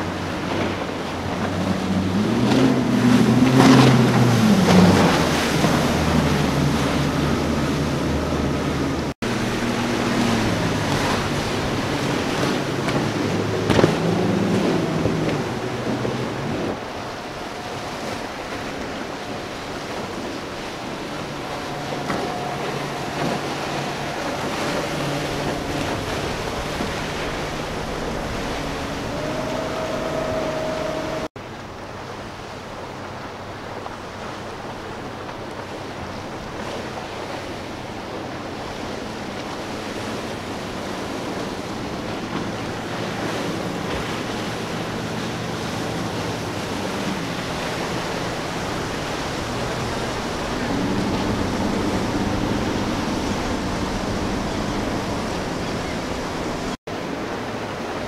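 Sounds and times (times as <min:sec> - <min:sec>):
outboard drone of passing boat: 0:00.0 - 0:58.0
outboard motors humming: 0:00.0 - 0:58.0
wind and surf: 0:00.0 - 0:58.0.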